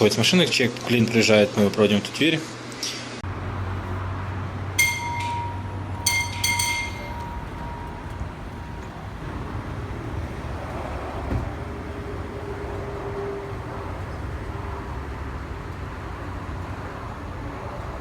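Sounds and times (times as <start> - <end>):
shop and vehicle noise rumble: 2.5 - 18.0.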